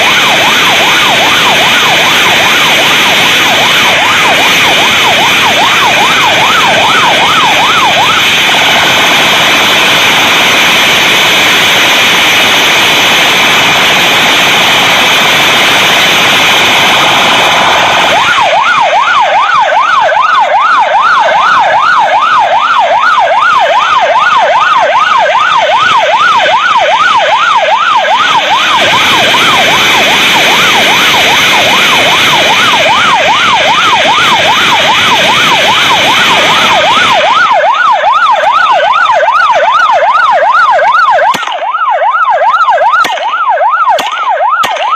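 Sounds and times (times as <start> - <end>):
loud steady rushing noise: 0.0 - 42.4
police siren yelping: 0.0 - 44.9.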